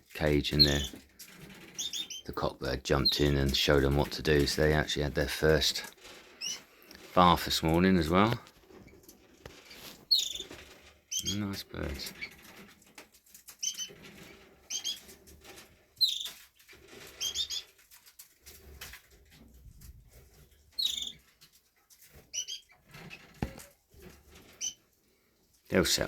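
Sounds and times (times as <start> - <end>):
wing flutter and perch rustling: 0.0 - 26.0
canaries chirping: 0.2 - 18.9, 20.7 - 21.4, 22.0 - 24.8.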